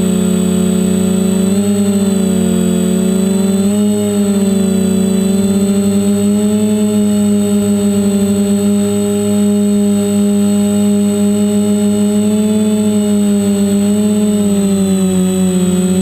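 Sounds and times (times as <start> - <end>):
drone motors humming: 0.0 - 16.0
high propeller whine: 0.0 - 16.0.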